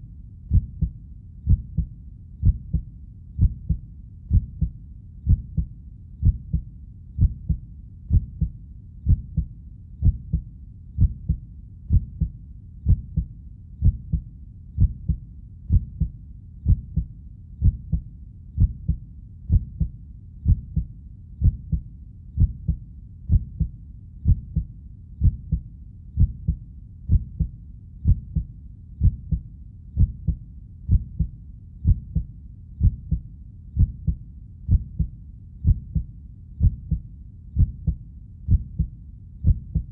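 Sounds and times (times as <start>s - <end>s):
heartbeat thumping: 0.5s - 18.0s, 18.6s - 25.6s, 26.2s - 29.4s, 30.0s - 39.9s.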